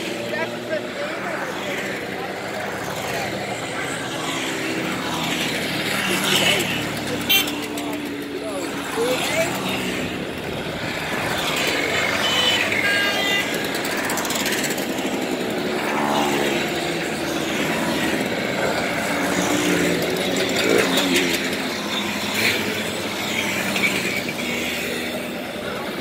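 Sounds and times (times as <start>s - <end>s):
mopeds riding past: 0.0s - 26.0s.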